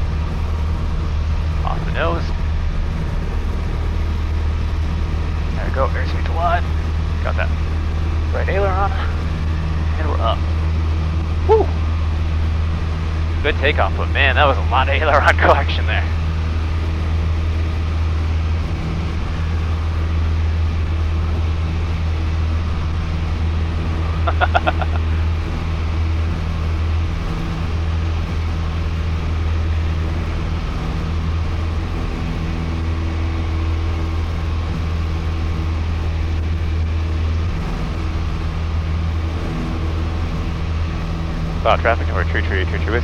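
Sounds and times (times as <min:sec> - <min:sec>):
airplane engine and propeller droning: 0:00.0 - 0:43.0.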